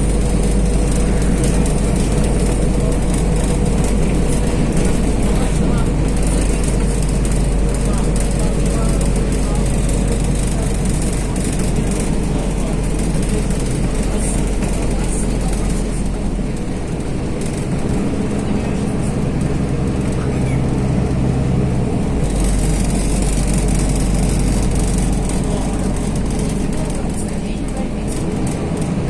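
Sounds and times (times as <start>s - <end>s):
bus diesel engine rumble: 0.0s - 29.0s
road noise: 0.0s - 29.0s.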